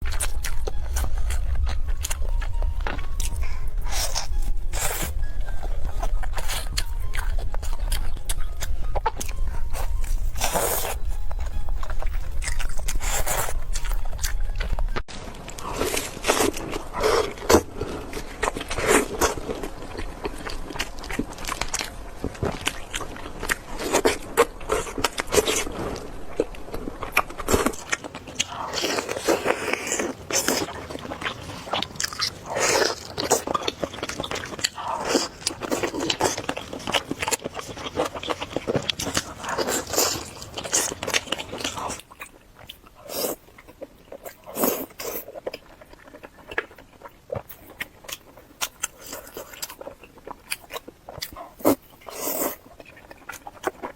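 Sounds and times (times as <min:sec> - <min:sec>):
steady low hum: 0:00.0 - 0:44.5
biting and chewing crunches: 0:00.0 - 0:53.9.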